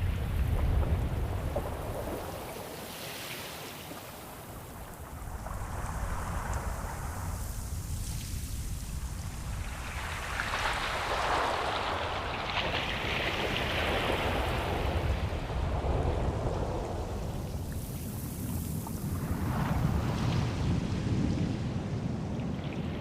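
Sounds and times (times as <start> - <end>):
low rumble of surf: 0.0 - 23.0
wave washing in: 0.0 - 23.0.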